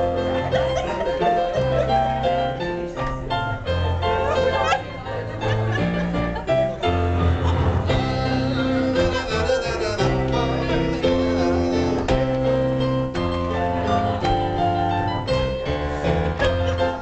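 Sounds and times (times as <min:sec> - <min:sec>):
instrumental music held chords: 0:00.0 - 0:17.0.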